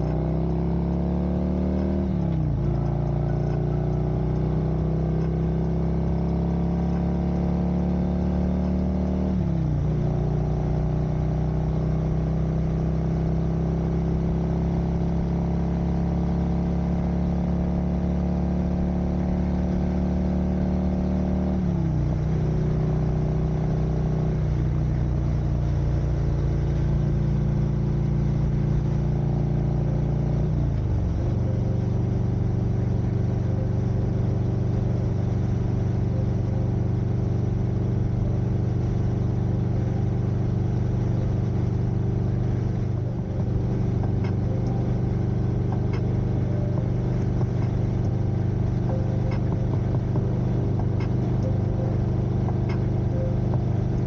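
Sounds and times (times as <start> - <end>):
motorcycle engine droning: 0.0 - 54.0.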